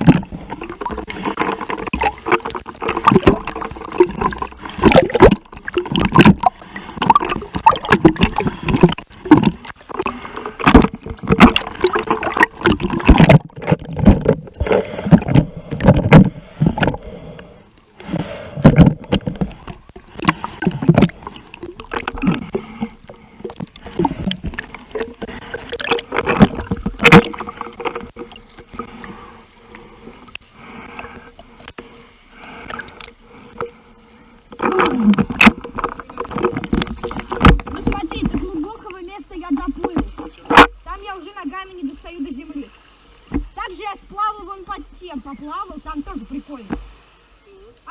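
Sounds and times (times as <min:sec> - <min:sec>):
water splashing from swimming: 0:00.0 - 0:47.9.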